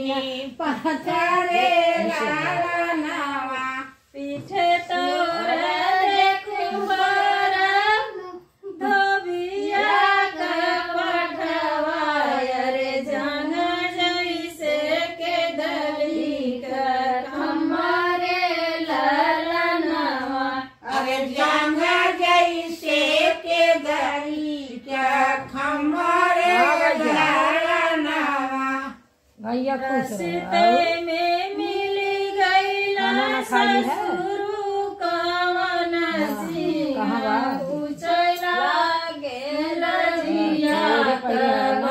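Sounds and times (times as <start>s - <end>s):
women singing without instruments: 0.0s - 41.9s.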